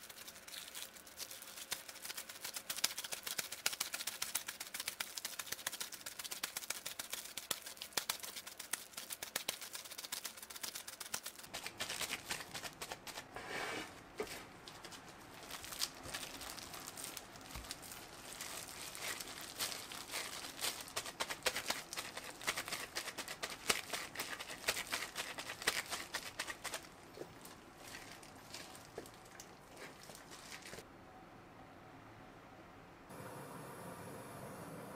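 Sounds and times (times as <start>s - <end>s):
minced meat squishing: 0.0s - 13.2s, 14.2s - 30.8s
plastic gloves crinkling: 0.0s - 30.9s.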